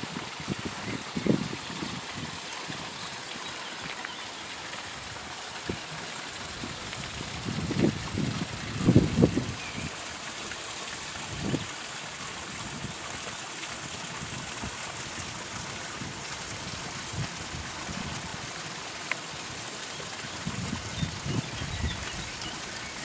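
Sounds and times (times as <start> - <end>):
water running in small waterfall: 0.0 - 23.0.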